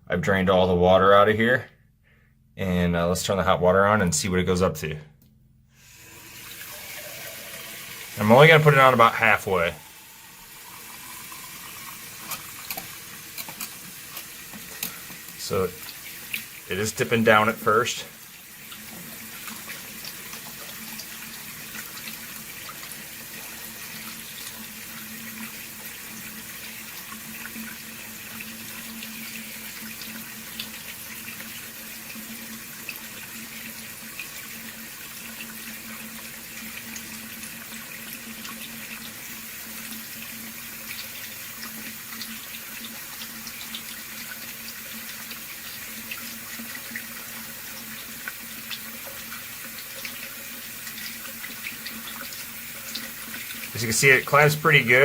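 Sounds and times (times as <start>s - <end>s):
tap water running: 5.8s - 55.0s.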